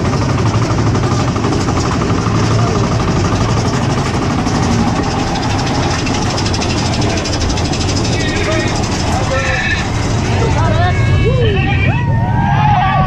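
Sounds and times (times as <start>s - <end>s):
roller coaster rumbling and rattling: 0.0s - 13.0s.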